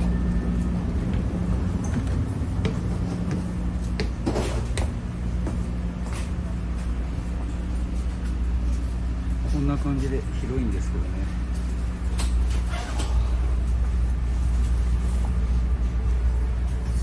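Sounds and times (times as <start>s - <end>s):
train running rumble and hum: 0.0s - 17.0s.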